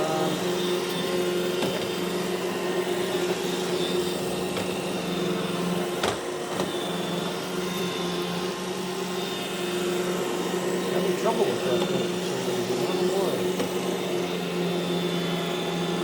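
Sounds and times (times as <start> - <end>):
robot vacuum running: 0.0 - 16.0.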